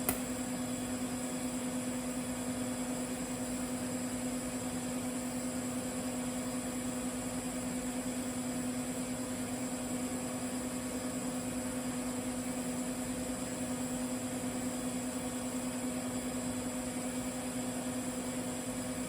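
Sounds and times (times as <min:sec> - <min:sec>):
welding arc humming and hissing: 0:00.0 - 0:19.0.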